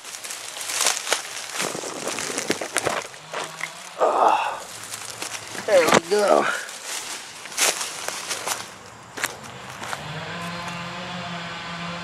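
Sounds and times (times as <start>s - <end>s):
vehicle engine hum: 0.1s - 12.0s.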